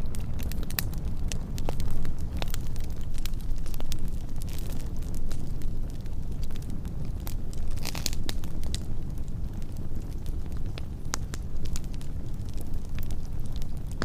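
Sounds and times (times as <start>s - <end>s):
burning wood crackling and popping: 0.0s - 14.0s
low rush of flame: 0.0s - 14.0s.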